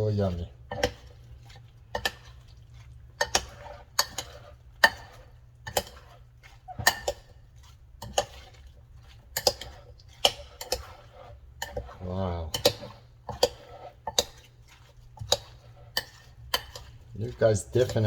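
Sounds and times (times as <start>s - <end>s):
utensils clinking against a bowl: 0.0s - 18.0s.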